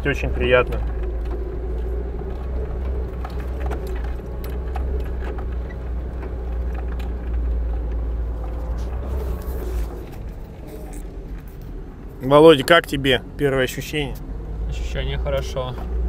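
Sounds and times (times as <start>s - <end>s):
knocks and rattles over bumps: 0.0s - 16.0s
low engine drone: 0.0s - 16.0s.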